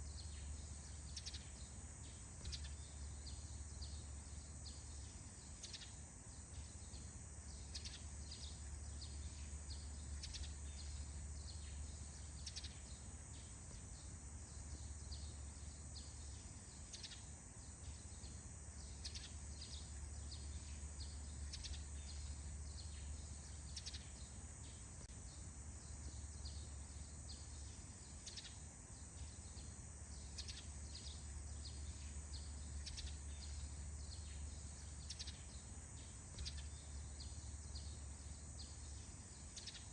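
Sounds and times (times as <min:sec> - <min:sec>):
birds chirping: 0:00.0 - 0:39.9
faint high hiss: 0:00.0 - 0:39.9.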